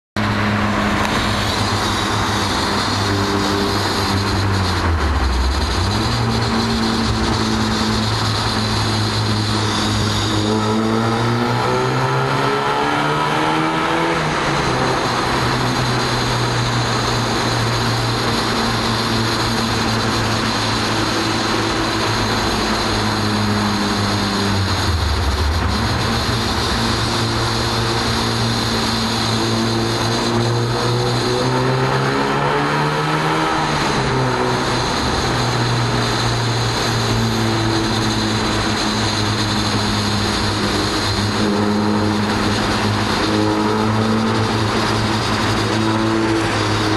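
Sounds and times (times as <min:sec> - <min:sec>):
car engine running hard: 0:00.2 - 0:46.9.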